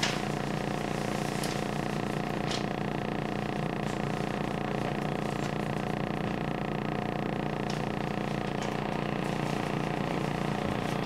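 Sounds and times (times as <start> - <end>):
train equipment hum and whir: 0.0 - 11.0.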